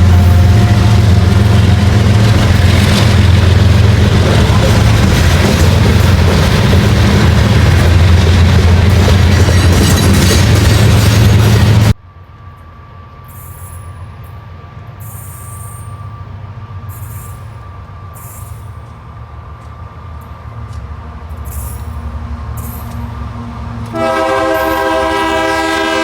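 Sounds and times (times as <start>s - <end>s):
diesel locomotive passing: 0.0s - 26.0s
train rumble: 0.0s - 26.0s.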